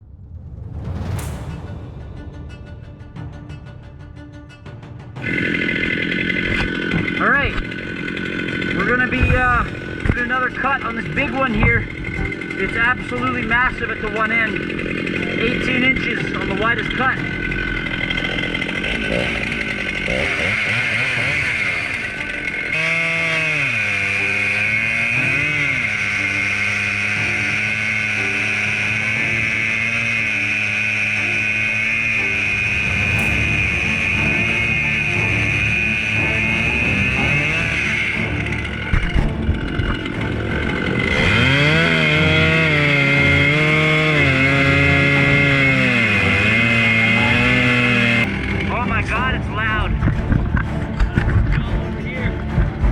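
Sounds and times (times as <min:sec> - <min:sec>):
chainsaw cutting log: 0:05.2 - 0:52.9.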